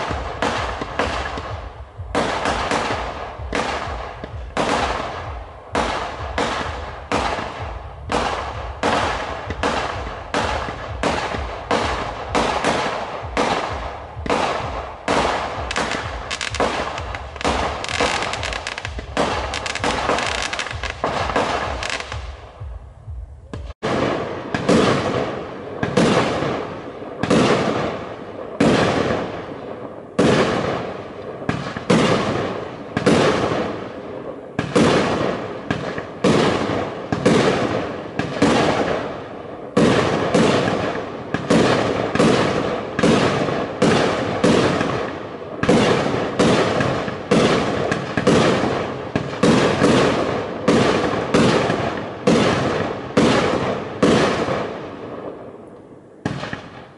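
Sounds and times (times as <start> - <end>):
fireworks crackling: 0.0 - 22.8, 23.5 - 56.9
fireworks bursting: 0.0 - 56.9.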